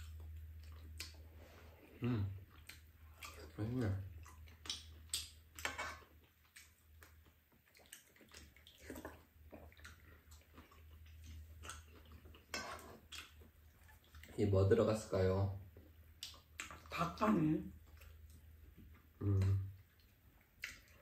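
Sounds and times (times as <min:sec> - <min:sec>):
wet chewing and slurping: 0:00.0 - 0:14.4, 0:17.7 - 0:21.0
faint low hum: 0:00.0 - 0:21.0.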